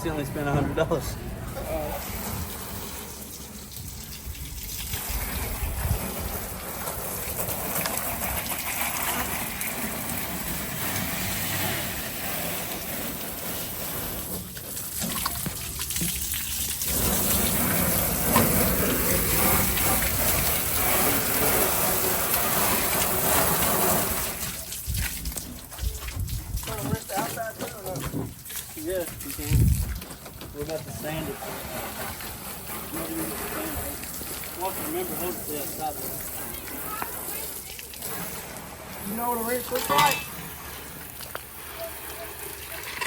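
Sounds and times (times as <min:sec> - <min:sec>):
water spraying from a hose: 0:00.0 - 0:43.0.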